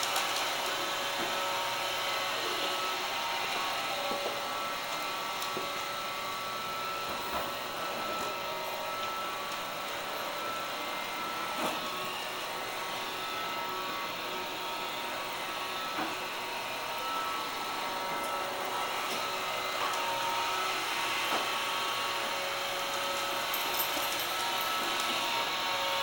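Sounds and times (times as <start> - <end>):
robot vacuum whirring: 0.0 - 26.0.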